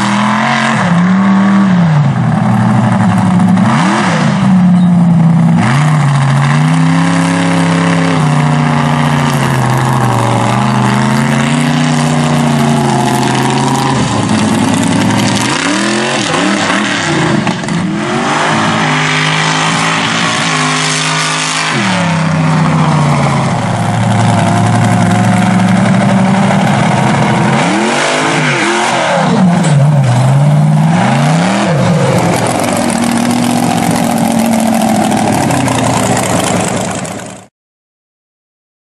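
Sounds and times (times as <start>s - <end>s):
truck engine revving: 0.0s - 37.5s.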